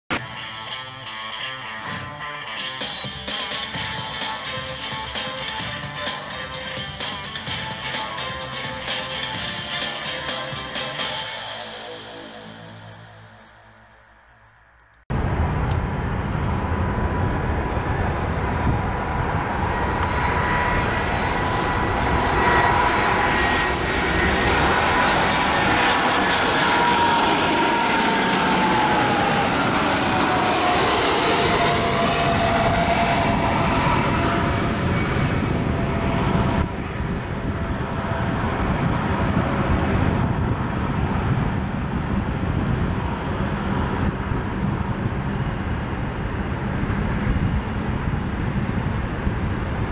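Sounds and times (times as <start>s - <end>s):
jet airliner engines whining: 0.1s - 49.9s
distant jet roar: 2.4s - 49.9s.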